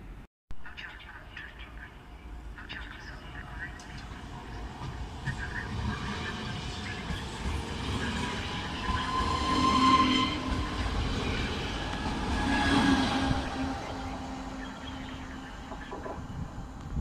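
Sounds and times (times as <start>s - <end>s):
train wheels rumbling on rail: 3.3s - 17.0s.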